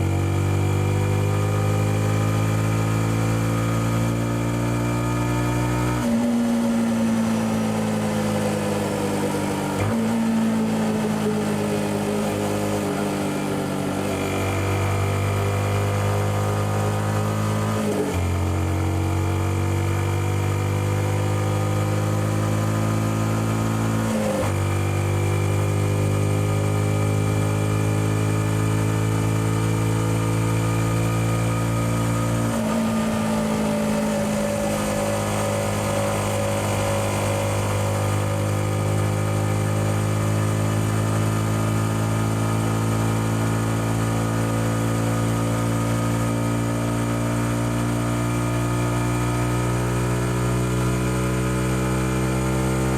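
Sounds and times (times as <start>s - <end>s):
motorcycle engine: 0.0s - 52.9s.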